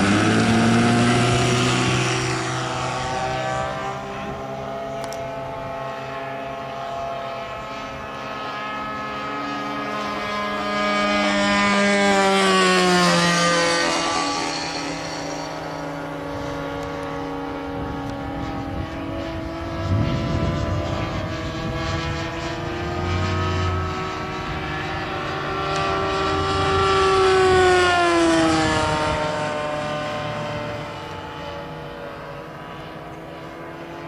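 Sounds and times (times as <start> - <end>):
model plane engine buzzing: 0.0 - 34.0.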